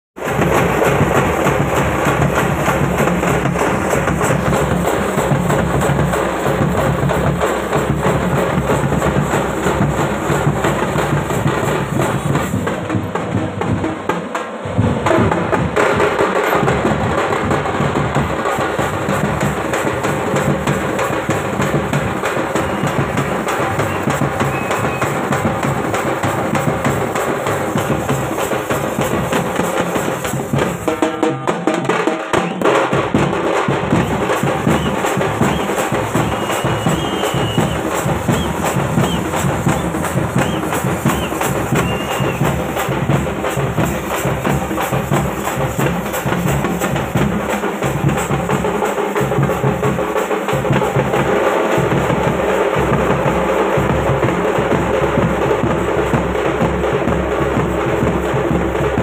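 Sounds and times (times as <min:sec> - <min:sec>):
drum troupe playing: 0:00.2 - 0:59.0
large drum deep beats: 0:00.2 - 0:59.0.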